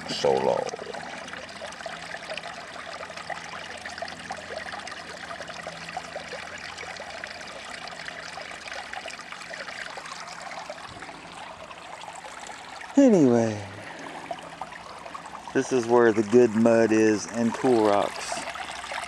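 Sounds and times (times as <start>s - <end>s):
stream babbling over rocks: 0.0s - 19.0s.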